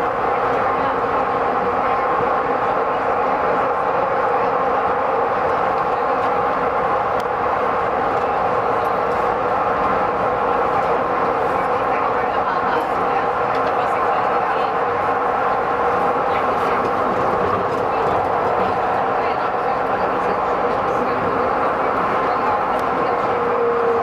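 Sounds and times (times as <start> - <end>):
train running in a tunnel: 0.0 - 24.0.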